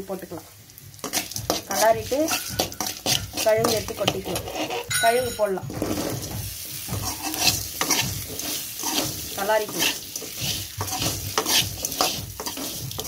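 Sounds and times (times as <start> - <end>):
oil sizzling: 0.0 - 13.0
spoon scraping metal pan: 1.0 - 13.0.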